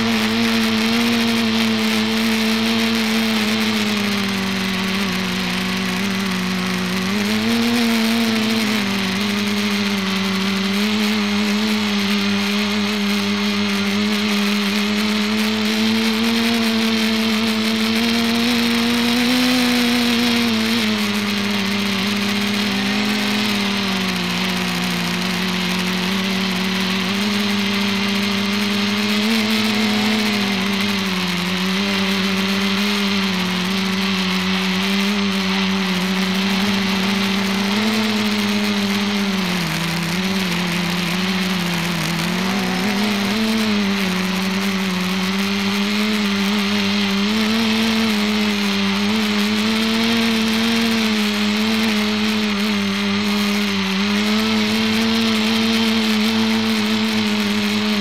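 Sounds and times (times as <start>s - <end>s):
multicopter propellers buzzing: 0.0s - 58.0s.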